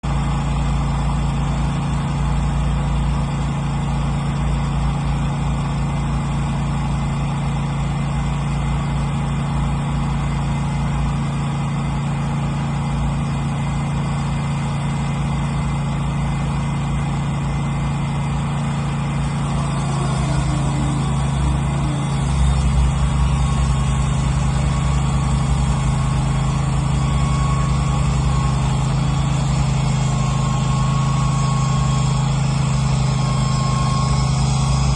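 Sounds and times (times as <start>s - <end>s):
band sawmill motor hum: 0.1s - 34.9s.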